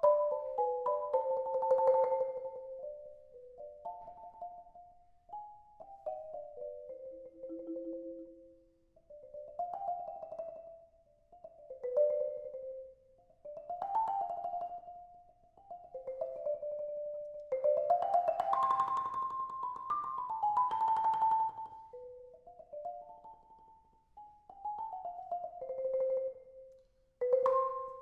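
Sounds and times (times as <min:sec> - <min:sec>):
marimba melody: 0:00.0 - 0:28.0.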